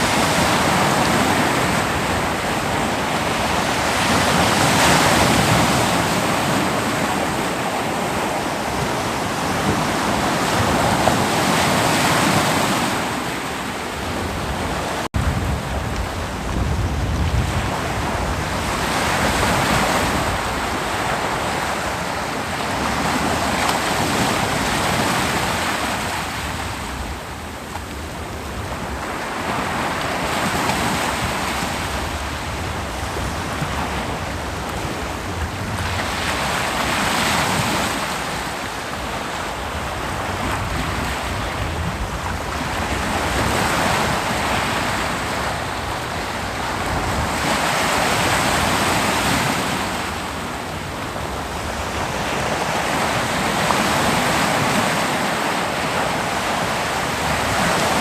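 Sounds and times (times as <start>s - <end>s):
ocean waves breaking: 0.0s - 58.0s
wind on microphone: 0.0s - 58.0s.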